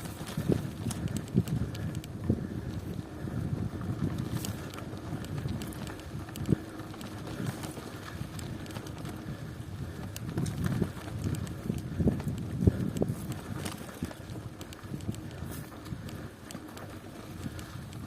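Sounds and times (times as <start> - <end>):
bicycle knocks and rattles: 0.0 - 18.0
bicycle tyres rumbling: 0.0 - 18.0
wind on microphone: 0.0 - 18.0.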